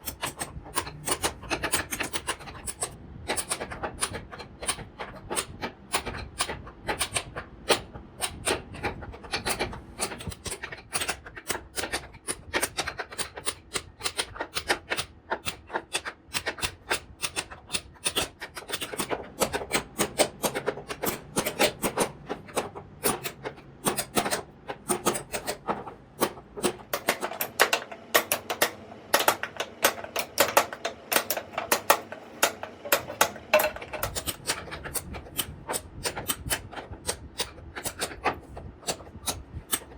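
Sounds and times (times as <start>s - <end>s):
hand tools carving wood: 0.0s - 39.9s.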